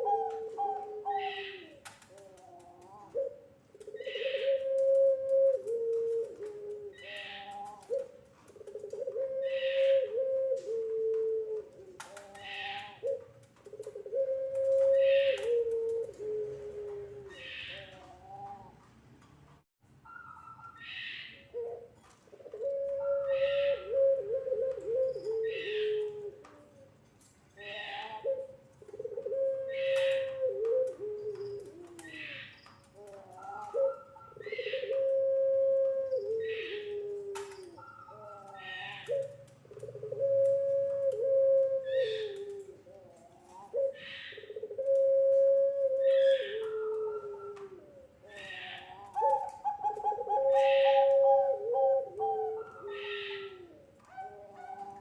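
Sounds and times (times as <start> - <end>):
dove cooing: 0.0 - 18.9, 20.1 - 55.0.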